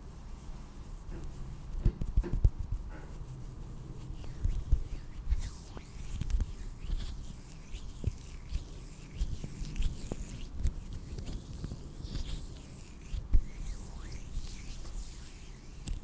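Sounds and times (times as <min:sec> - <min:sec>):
hand rustling: 0:00.4 - 0:16.0.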